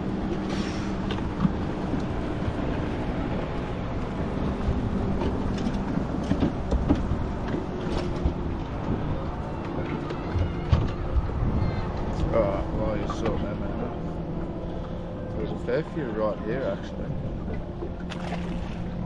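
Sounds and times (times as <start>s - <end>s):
small boat engine rumble: 0.0s - 19.0s.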